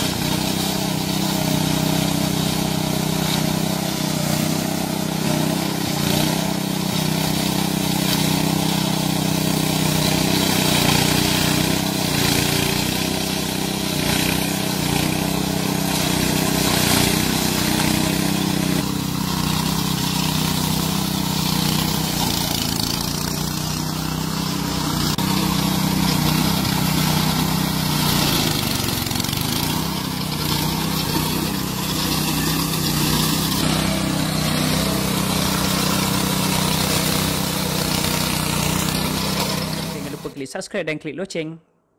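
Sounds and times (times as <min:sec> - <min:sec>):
lawn mower engine running: 0:00.0 - 0:40.4.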